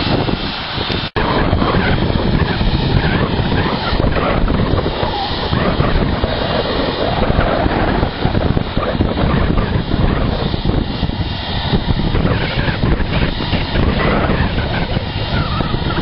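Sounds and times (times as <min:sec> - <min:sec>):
jet engines running: 0:00.0 - 0:16.0
wind buffeting the microphone: 0:00.0 - 0:16.0.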